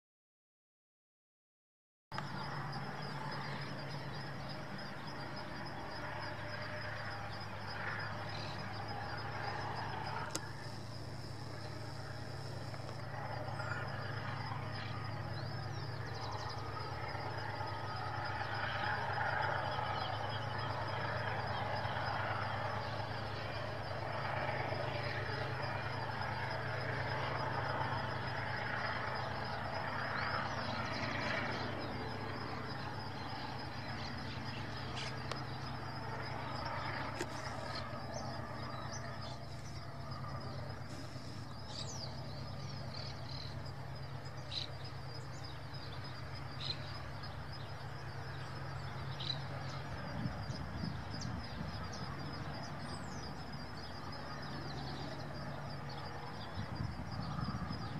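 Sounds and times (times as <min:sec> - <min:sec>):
locomotive engine drone: 0:02.2 - 0:57.9
freight cars rumbling on rails: 0:02.3 - 0:57.9.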